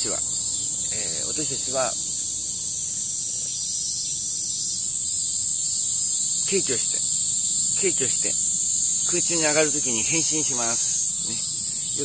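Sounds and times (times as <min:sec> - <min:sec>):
cicadas singing: 0:00.0 - 0:12.0.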